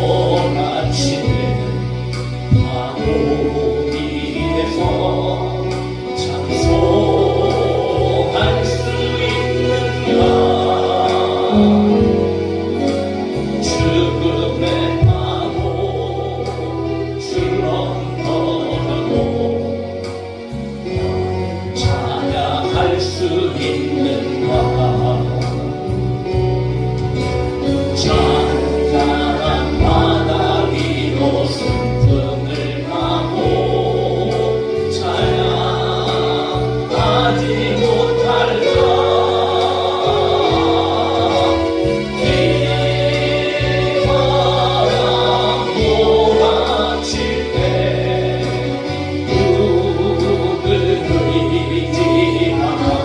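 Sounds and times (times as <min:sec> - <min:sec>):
choir singing gospel song: 0:00.0 - 0:53.0
instrumental accompaniment: 0:00.0 - 0:53.0.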